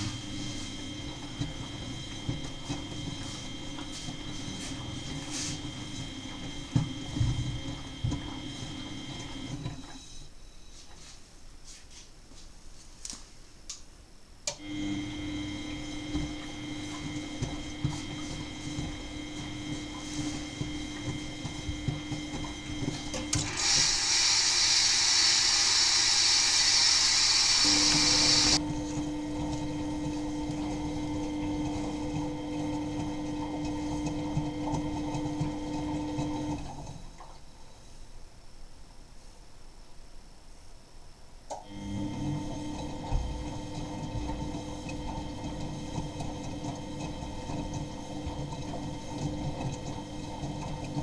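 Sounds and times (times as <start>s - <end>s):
washing machine motor humming: 0.0s - 10.0s, 14.5s - 37.4s, 41.5s - 51.0s.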